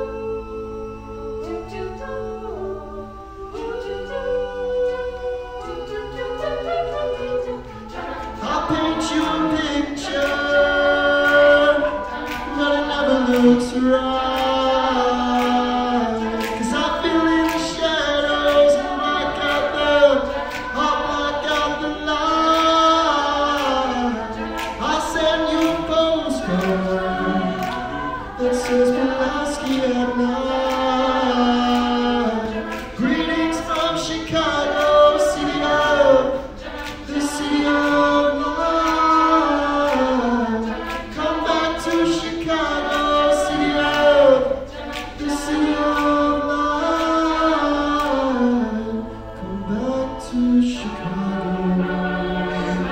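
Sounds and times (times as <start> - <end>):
group singing in harmony: 0.0 - 52.9.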